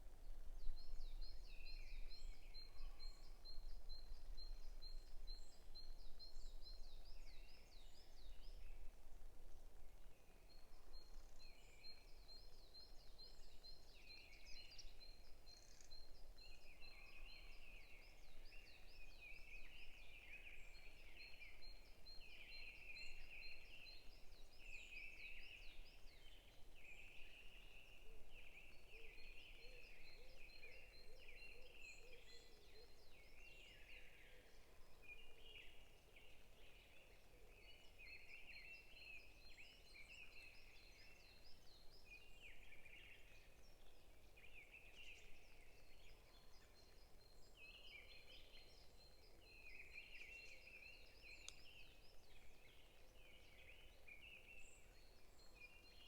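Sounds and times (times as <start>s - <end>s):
faint chirping birdsong: 0.0s - 56.0s.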